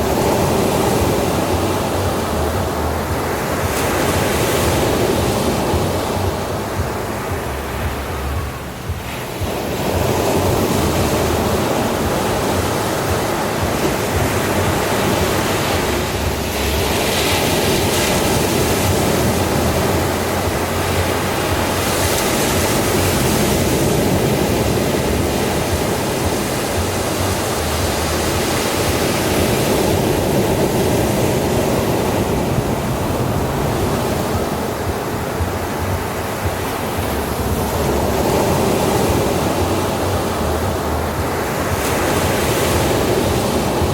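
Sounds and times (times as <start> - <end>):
ocean waves on beach: 0.0 - 43.9.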